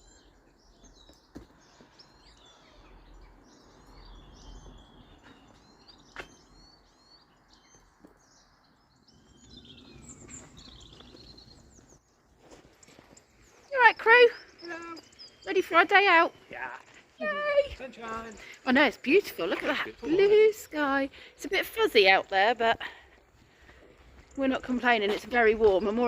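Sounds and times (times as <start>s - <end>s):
small birds chirping and singing: 0.0s - 26.0s.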